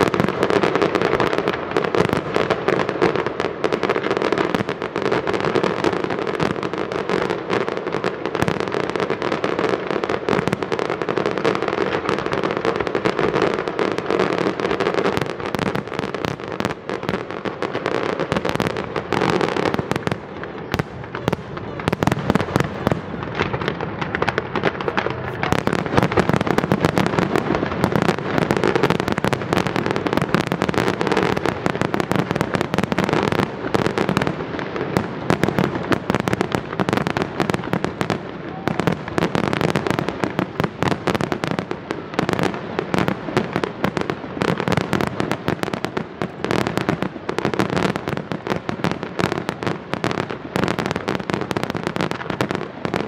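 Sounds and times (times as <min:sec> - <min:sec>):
fireworks bursting and crackling: 0:00.0 - 0:53.0.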